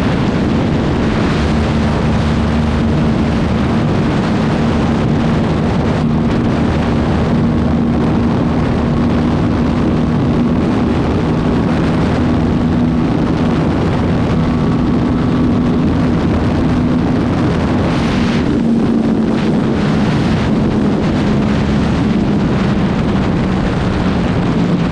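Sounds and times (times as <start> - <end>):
motorcycle engine running: 0.0 - 24.9
wind rushing over microphone: 0.0 - 24.9.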